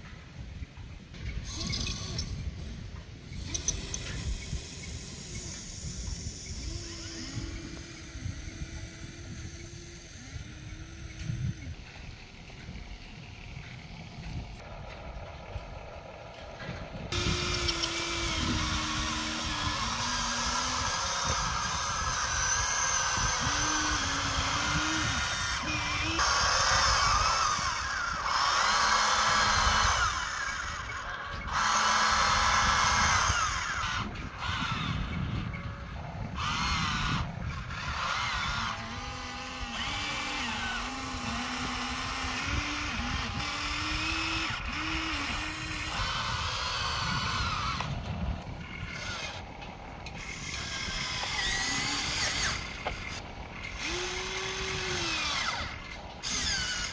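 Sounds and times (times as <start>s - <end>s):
toy motors whining: 1.3s - 15.2s, 16.6s - 56.9s.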